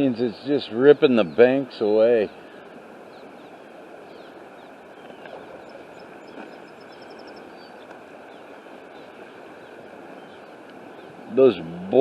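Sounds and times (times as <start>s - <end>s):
creek rushing: 0.0s - 12.0s
small birds chirping: 0.0s - 12.0s.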